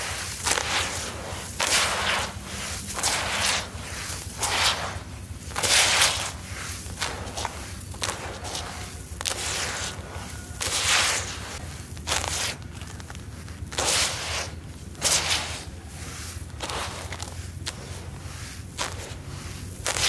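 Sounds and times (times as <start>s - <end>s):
gritty sand pouring and crunching: 0.0s - 20.0s.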